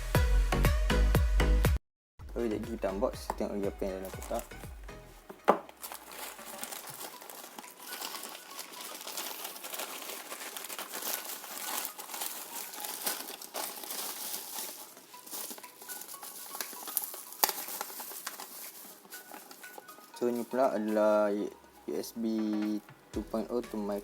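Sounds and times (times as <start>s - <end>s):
packaging crinkling and rustling: 3.3s - 22.8s.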